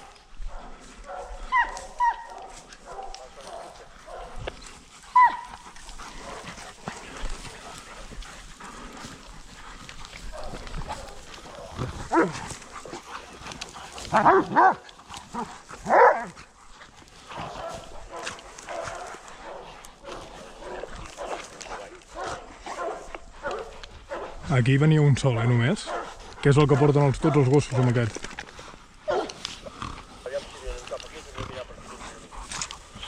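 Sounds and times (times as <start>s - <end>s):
dogs barking loudly: 0.0s - 28.0s, 29.0s - 33.0s
faint background barking: 0.0s - 33.0s.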